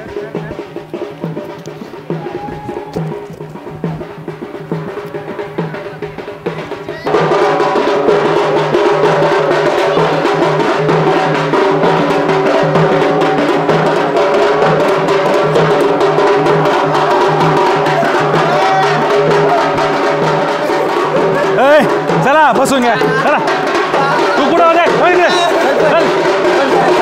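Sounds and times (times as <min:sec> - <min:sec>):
drum beating dance rhythm: 0:00.0 - 0:27.0.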